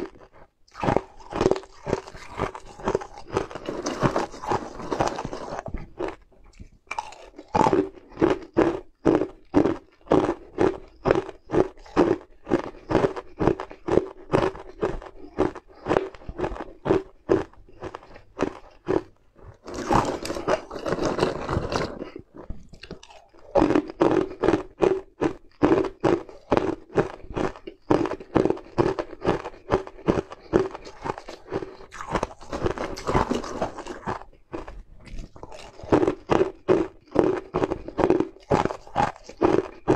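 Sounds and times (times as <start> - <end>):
ice cubes being chewed: 0.0 - 39.9.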